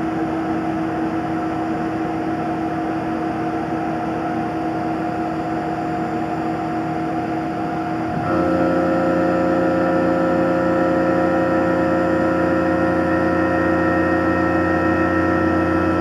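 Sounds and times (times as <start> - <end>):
milling machine whine: 0.0 - 16.0.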